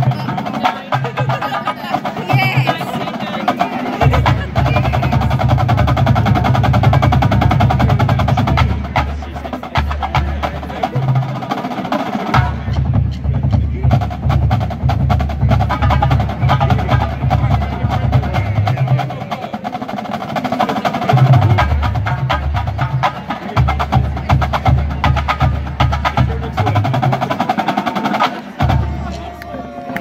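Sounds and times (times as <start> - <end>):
snare and tenor drum rolls: 0.0 - 29.3.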